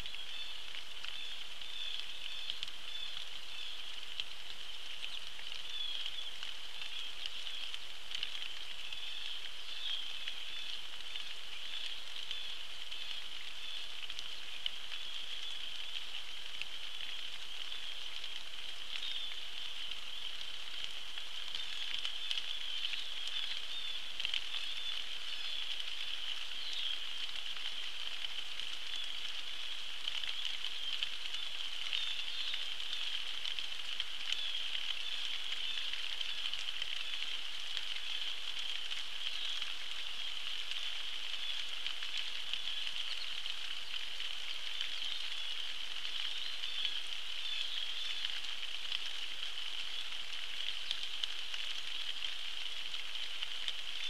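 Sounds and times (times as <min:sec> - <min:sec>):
rain falling on a pond: 0:00.0 - 0:54.0.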